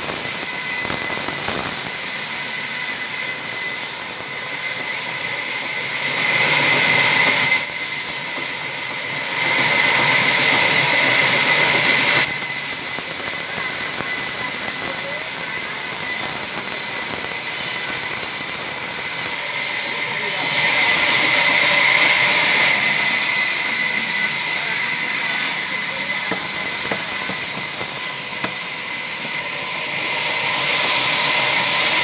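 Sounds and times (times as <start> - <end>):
band saw cutting wood: 0.0 - 32.0.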